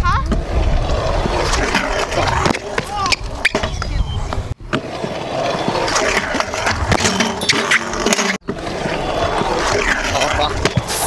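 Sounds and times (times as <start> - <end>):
scooter wheels rolling on concrete: 0.0 - 11.0.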